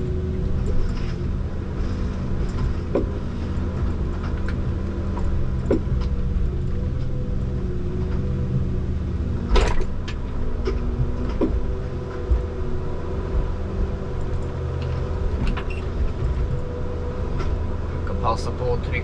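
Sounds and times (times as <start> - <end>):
harvester engine drone: 0.0 - 19.0
hydraulic crane whines: 0.0 - 19.0.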